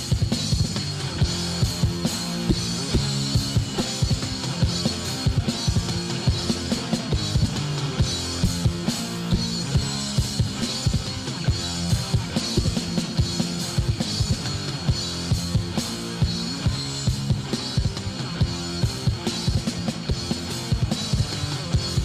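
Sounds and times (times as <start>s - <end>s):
fast drum beat: 0.0s - 22.0s
punk band instrumental: 0.0s - 22.0s.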